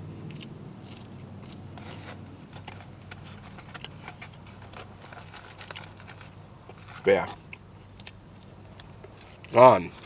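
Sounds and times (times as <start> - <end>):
steady low hum: 0.0 - 10.0
chewing food close up: 0.2 - 10.0.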